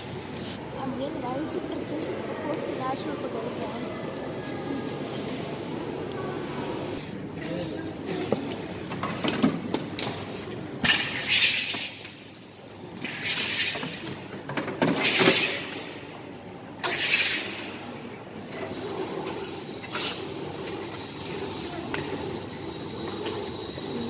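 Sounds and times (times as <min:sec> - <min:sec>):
low background murmur: 0:00.0 - 0:24.0.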